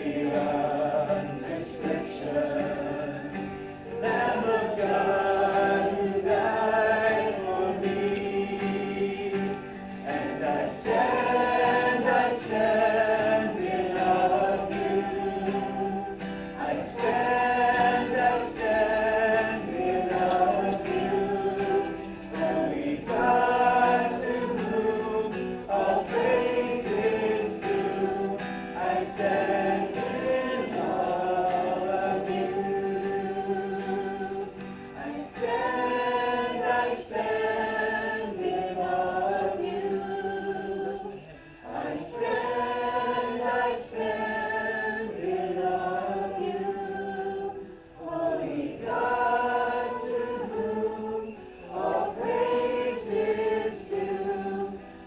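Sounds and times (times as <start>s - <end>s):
congregation singing: 0.0s - 55.0s.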